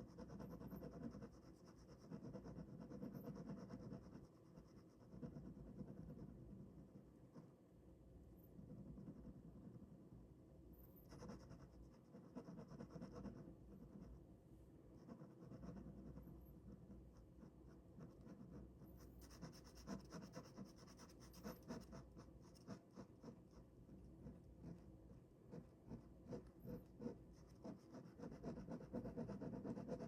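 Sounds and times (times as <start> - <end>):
pen scratching on paper: 0.0 - 6.7, 8.7 - 9.8, 11.0 - 14.2, 15.0 - 30.0.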